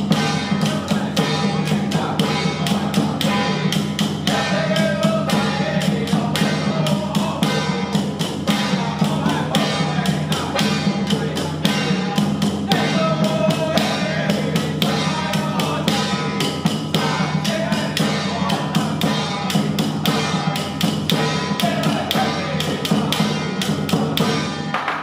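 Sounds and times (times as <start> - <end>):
steady percussion beat: 0.0 - 25.0.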